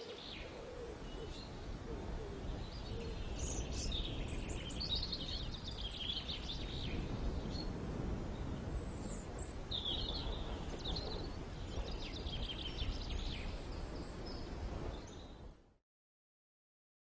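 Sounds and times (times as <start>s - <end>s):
birds chirping: 0.0s - 15.4s
low outdoor rumble: 0.9s - 14.9s.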